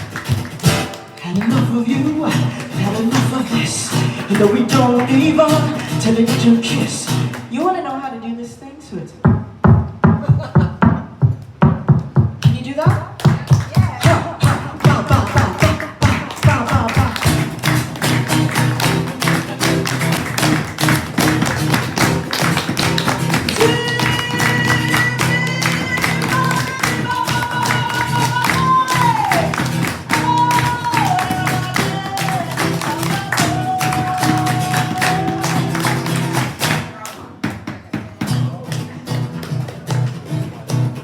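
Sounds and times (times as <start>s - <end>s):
strummed acoustic instrument: 0.0s - 7.6s, 14.0s - 37.0s, 38.1s - 41.0s.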